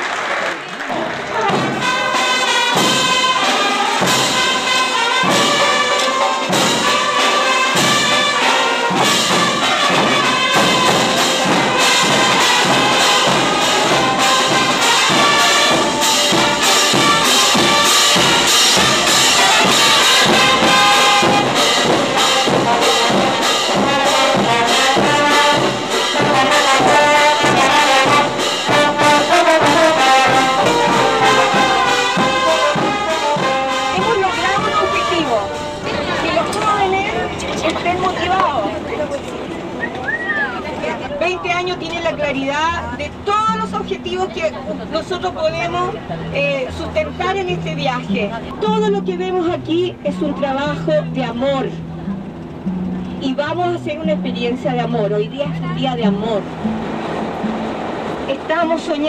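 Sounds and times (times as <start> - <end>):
brass band playing a tune: 0.0 - 59.0
steady beat: 1.4 - 37.1, 43.2 - 58.3.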